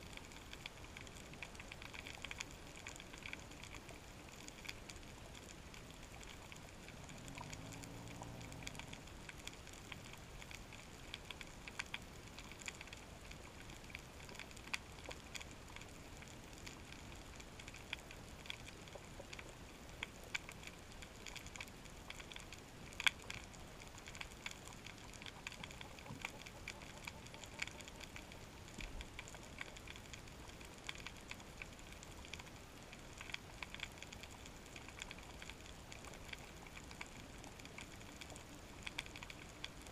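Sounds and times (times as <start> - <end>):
snapping shrimp crackling underwater: 0.0 - 39.9.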